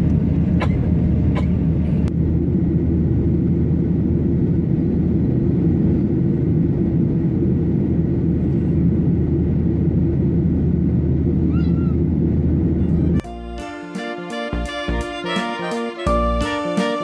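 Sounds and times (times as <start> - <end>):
jet engine cabin roar: 0.0 - 17.0.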